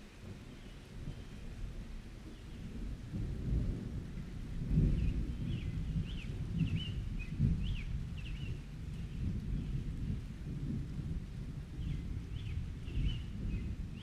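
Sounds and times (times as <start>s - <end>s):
steady rain: 0.0s - 14.0s
rolling thunder: 2.4s - 14.0s.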